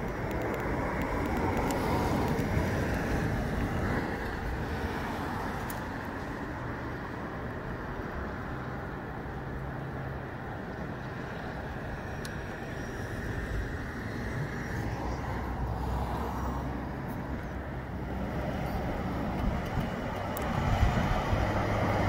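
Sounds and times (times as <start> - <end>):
gusty wind through trees: 0.0 - 22.0.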